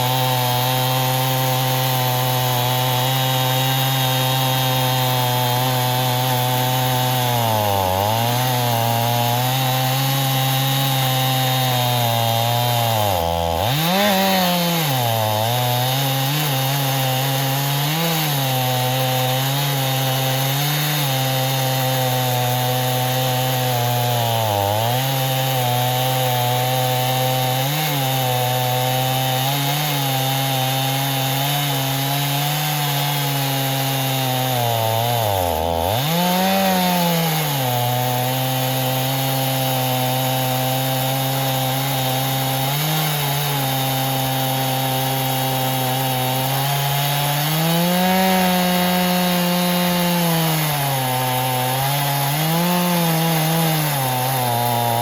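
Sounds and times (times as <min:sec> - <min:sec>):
chainsaw ripping log: 0:00.0 - 0:55.0.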